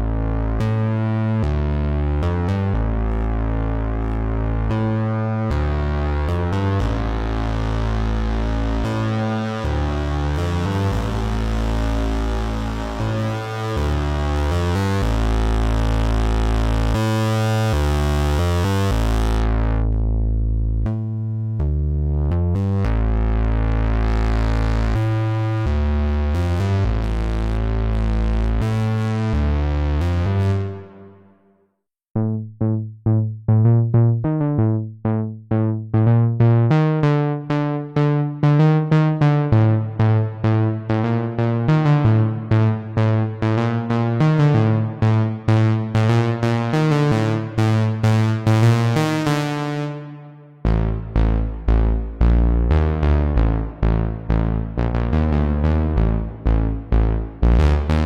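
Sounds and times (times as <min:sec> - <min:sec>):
plucked synthesizer notes: 0:00.0 - 0:31.4, 0:32.2 - 0:58.0
synthesizer bass line: 0:00.0 - 0:31.4, 0:32.2 - 0:58.0.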